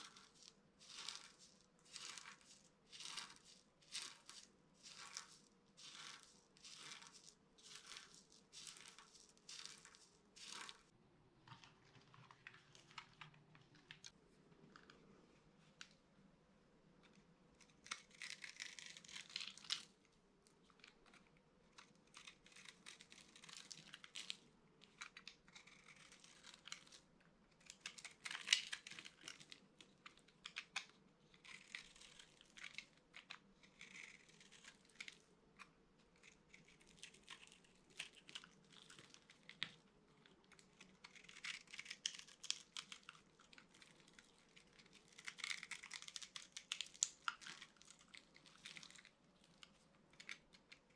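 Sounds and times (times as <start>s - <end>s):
dry soap crunching: 0.0s - 10.9s, 17.0s - 50.9s.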